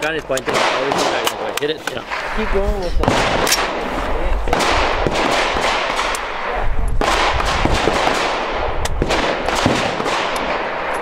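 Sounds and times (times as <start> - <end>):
gunshots echoing: 0.2 - 11.0.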